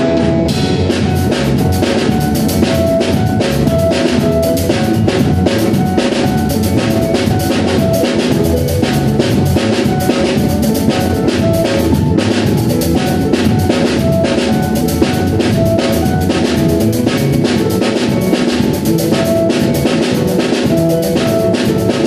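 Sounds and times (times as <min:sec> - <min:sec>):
drum kit groove: 0:00.0 - 0:22.0
synthesizer keyboards: 0:00.0 - 0:22.0.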